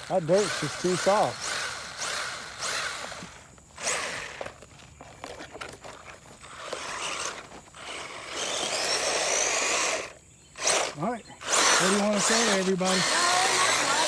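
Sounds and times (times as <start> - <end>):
electric motor whining: 0.0 - 4.7, 6.4 - 14.0
tyres scrabbling in loose dirt: 0.0 - 14.0.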